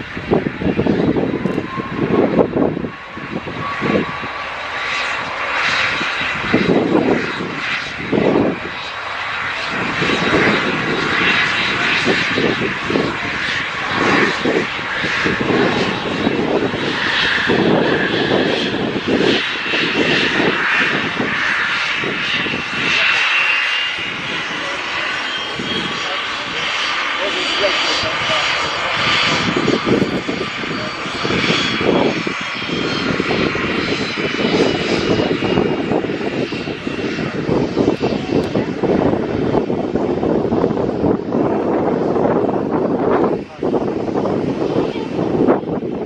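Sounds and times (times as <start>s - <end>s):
jet engines at takeoff power: 0.0s - 46.0s
wind buffeting microphone: 0.0s - 46.0s.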